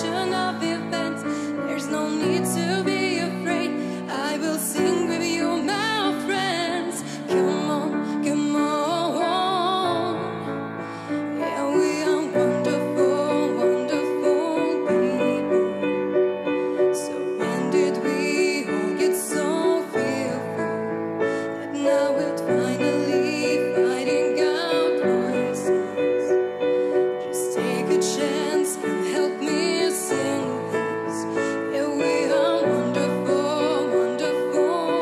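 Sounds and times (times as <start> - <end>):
piano backing track: 0.0 - 35.0
woman singing a slow ballad: 0.0 - 35.0.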